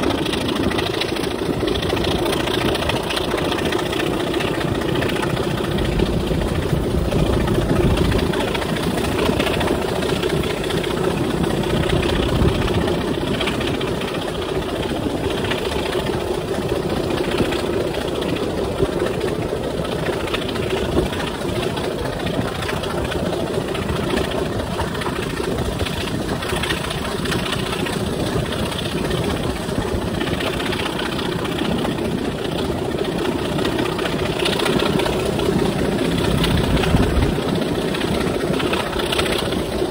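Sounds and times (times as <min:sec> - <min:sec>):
diesel locomotive engine running: 0:00.0 - 0:39.9
train wheels on track: 0:00.0 - 0:39.9.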